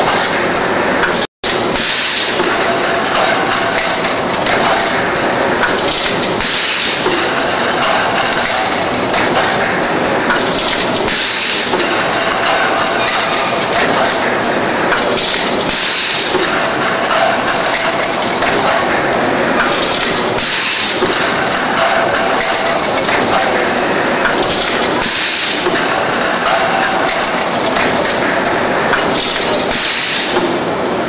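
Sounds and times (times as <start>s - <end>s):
machine mechanical clatter: 0.0s - 31.0s.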